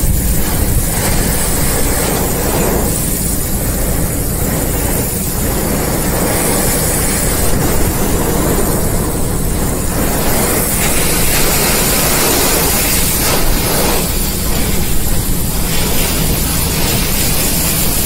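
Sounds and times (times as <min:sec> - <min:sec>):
deep rumble: 0:00.0 - 0:18.0
heavy rain on a car: 0:00.0 - 0:18.0
strong wind: 0:00.0 - 0:18.0.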